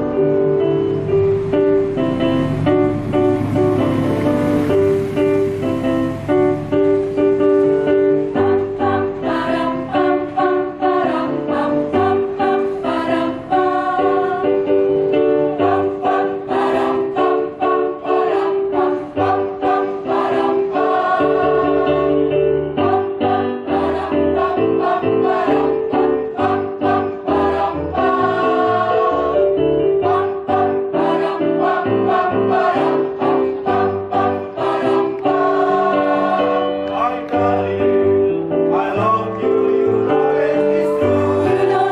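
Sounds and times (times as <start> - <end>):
instrumental accompaniment: 0.0 - 41.9
mixed choir singing: 0.0 - 41.9.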